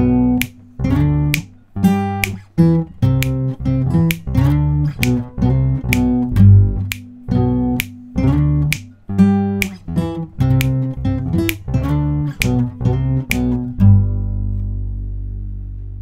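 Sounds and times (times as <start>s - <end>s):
acoustic guitar strumming chords: 0.0s - 15.8s.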